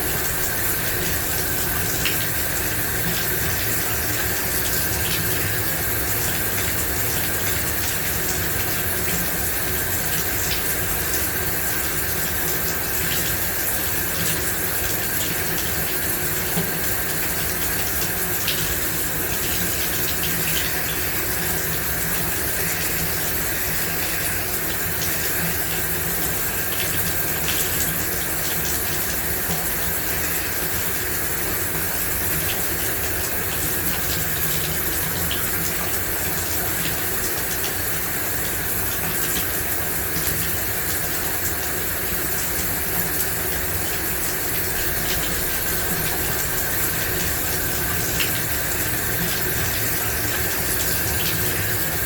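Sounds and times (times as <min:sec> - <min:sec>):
shower water spraying: 0:00.0 - 0:52.0.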